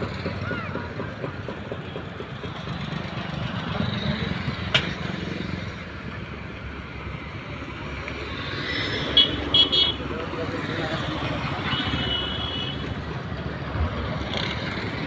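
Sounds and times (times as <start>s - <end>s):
traffic engine and road rumble: 0.0s - 15.0s.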